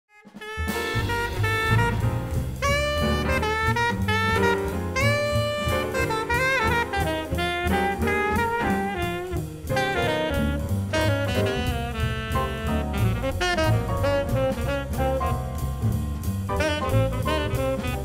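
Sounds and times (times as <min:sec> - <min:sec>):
jazz tune with horn melody: 0:00.1 - 0:18.0.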